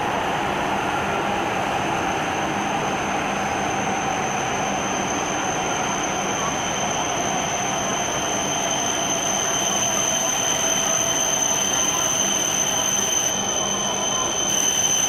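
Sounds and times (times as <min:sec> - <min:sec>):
high-pitched train whine: 0:00.0 - 0:15.0
train wheels rumbling on rail: 0:00.0 - 0:15.0.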